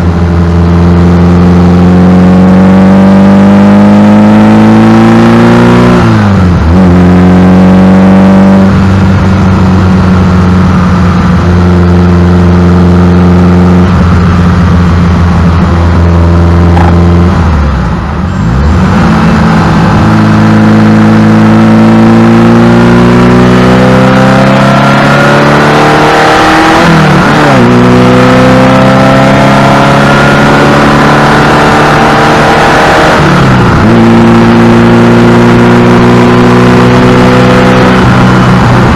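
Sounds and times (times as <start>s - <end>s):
engine revving through gears: 0.0s - 38.9s.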